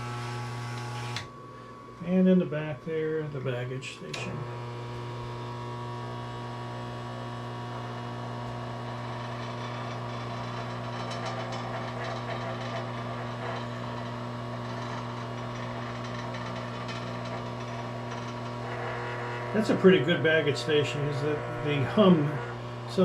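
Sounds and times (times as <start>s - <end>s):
toy accessory electrical hum: 0.0s - 23.0s.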